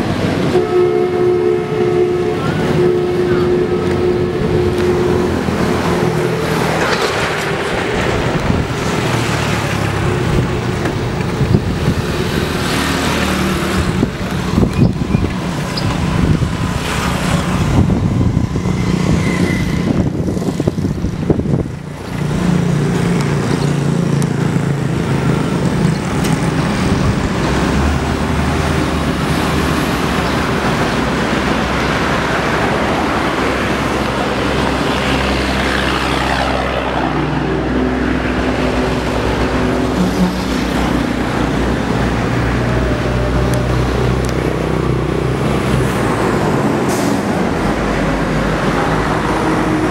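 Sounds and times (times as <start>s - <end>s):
heavy truck engine droning: 0.0s - 49.9s
road traffic engine and tyre noise: 0.0s - 49.9s.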